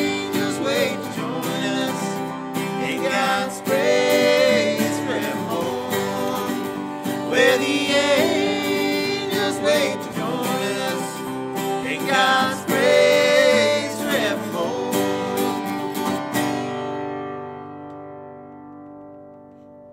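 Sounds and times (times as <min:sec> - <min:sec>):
acoustic guitar: 0:00.0 - 0:19.9
resonator guitar: 0:00.0 - 0:19.9.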